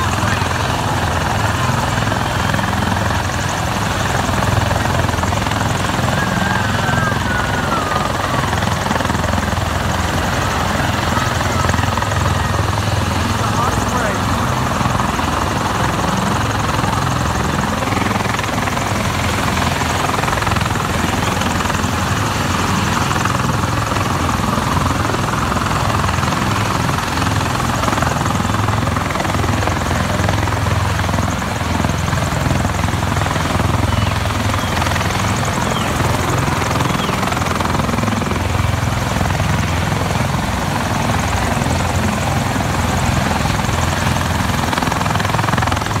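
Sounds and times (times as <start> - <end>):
helicopter engines and rotor running: 0.0 - 46.0.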